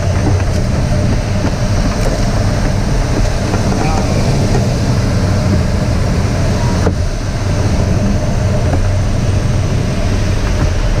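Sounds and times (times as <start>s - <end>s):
airflow rushing over glider: 0.0s - 11.0s.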